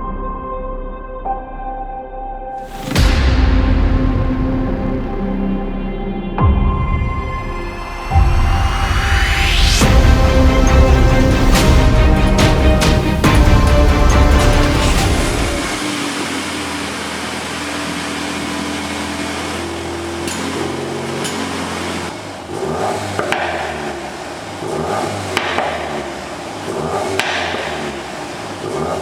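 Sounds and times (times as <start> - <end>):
car engine idling and revving: 2.6 - 29.0.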